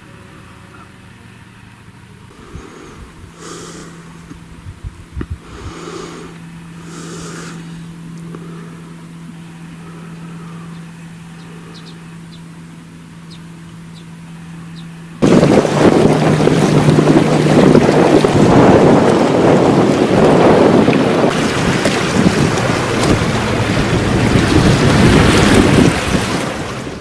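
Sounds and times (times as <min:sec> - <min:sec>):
motor hum: 0:00.0 - 0:27.0.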